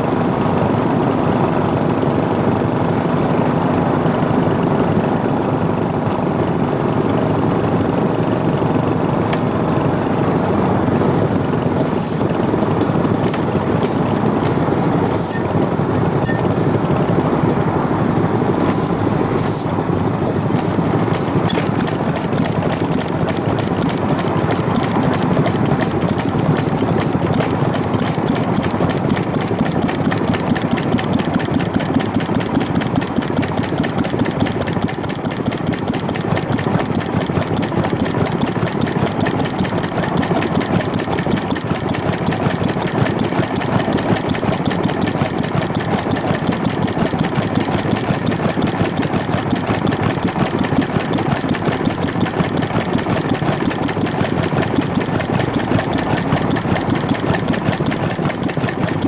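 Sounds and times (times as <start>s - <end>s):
stationary engine clattering: 9.1s - 59.0s.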